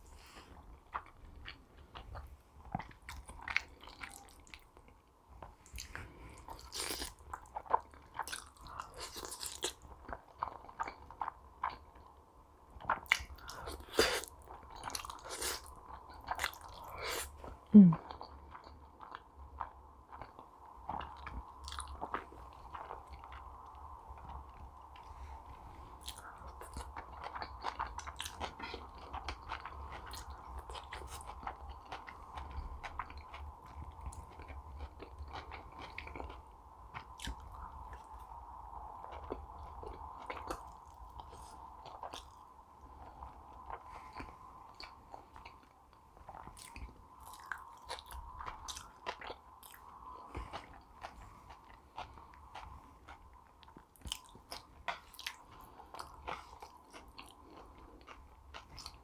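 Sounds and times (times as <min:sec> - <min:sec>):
biting and chewing food: 0:00.0 - 0:59.0
steady low hum: 0:00.0 - 0:59.0.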